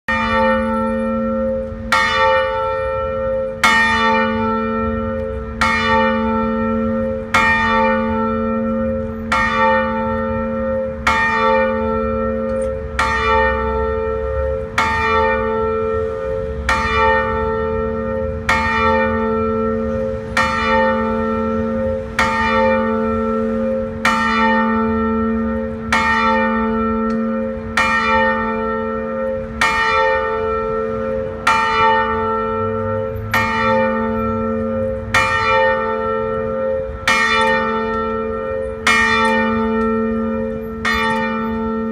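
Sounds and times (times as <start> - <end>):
church bell tolling: 0.1 - 41.9.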